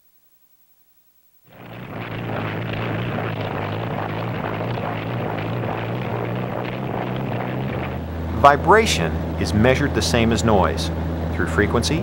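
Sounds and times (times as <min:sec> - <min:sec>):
piston engine and rotor droning: 0:01.5 - 0:12.0.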